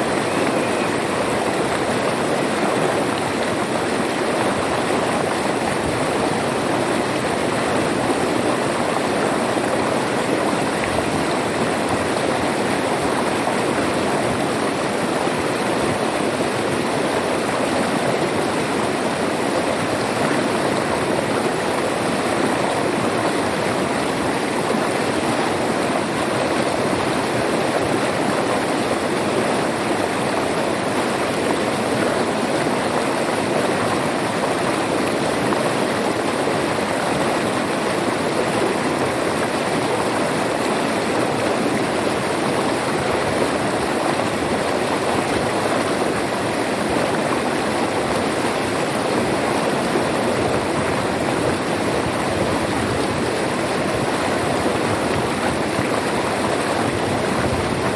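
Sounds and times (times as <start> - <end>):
river water flowing over rocks: 0.0 - 57.9.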